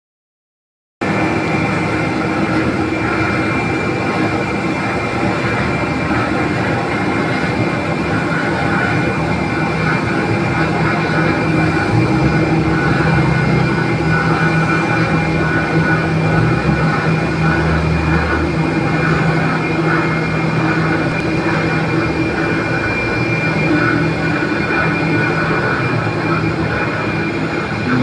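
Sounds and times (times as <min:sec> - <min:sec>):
jet engines running: 0:01.0 - 0:28.0
low hum: 0:01.0 - 0:28.0.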